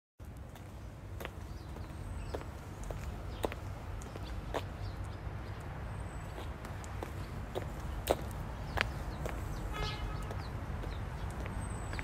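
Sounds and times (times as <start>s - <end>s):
footsteps clicking on pavement: 0.2s - 12.0s.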